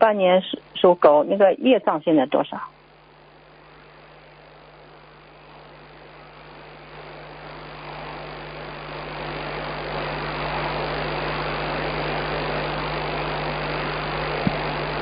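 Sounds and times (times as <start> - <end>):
low hum: 0.0 - 15.0
telephone line hiss: 0.0 - 15.0.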